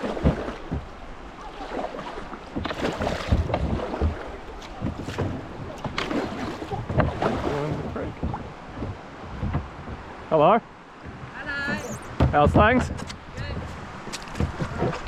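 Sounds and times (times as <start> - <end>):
kayak paddle strokes splashing: 0.0 - 12.5
paddle knocking on hull: 0.0 - 15.0
running water: 0.0 - 15.0.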